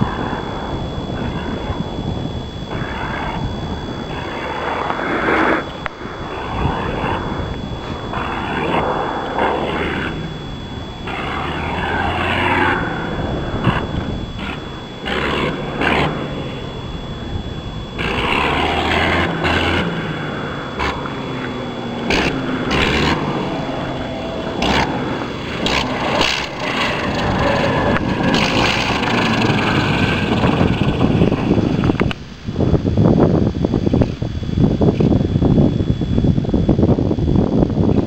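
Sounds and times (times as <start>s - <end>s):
rotary aircraft engine running unevenly: 0.0s - 38.0s.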